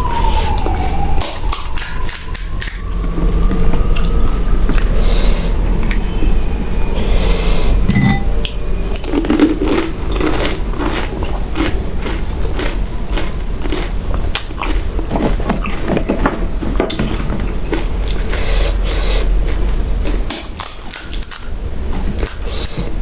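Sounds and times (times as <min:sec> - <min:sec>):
crunching fried shells: 0:00.1 - 0:05.2, 0:08.4 - 0:23.0.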